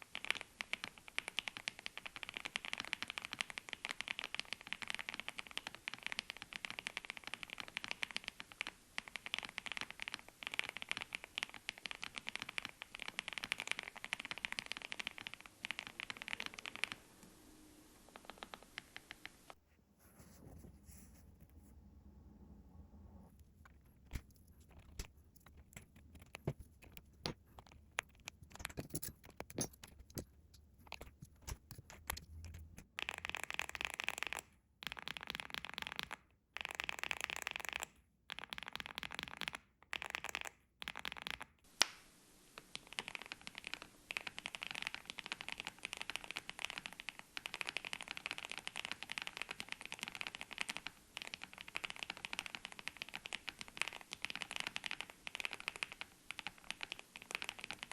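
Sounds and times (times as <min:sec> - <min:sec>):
mechanical keyboard typing: 0:00.1 - 0:17.0, 0:18.1 - 0:19.4, 0:23.3 - 0:41.6, 0:42.7 - 0:57.9.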